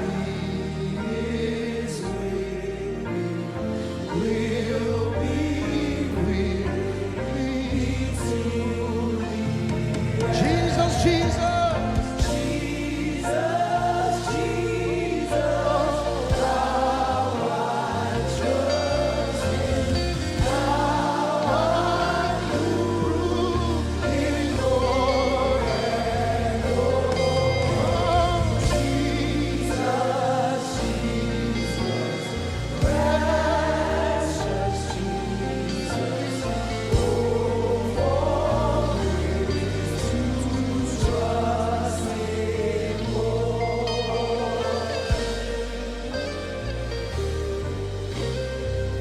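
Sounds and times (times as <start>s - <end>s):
bass: 0.0s - 49.0s
congregation and choir singing: 0.0s - 49.0s
keyboard: 0.0s - 49.0s.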